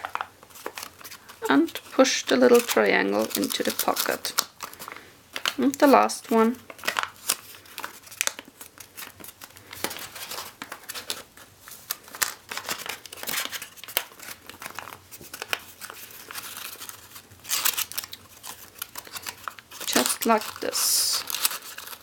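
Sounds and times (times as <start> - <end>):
paper crinkling and rustling: 0.0 - 22.0.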